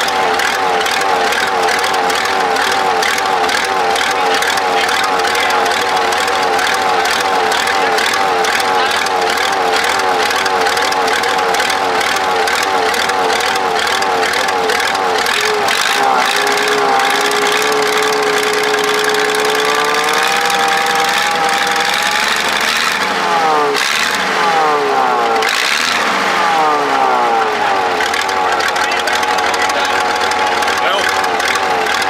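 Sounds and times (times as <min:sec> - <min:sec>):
diesel engine running and revving: 0:00.0 - 0:32.0.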